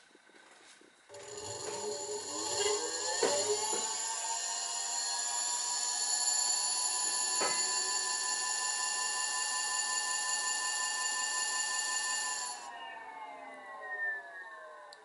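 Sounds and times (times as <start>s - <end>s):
electric motor whine: 1.1s - 15.0s.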